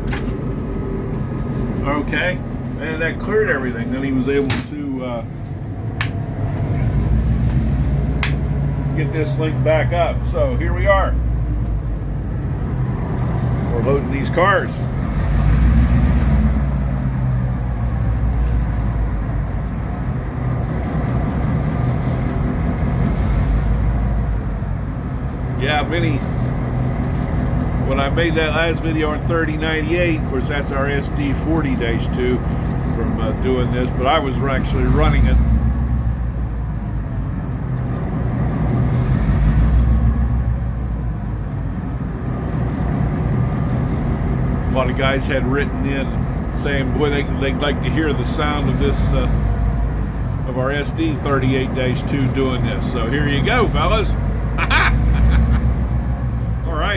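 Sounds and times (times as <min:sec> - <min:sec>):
diesel locomotive engine drone: 0:00.0 - 0:56.9.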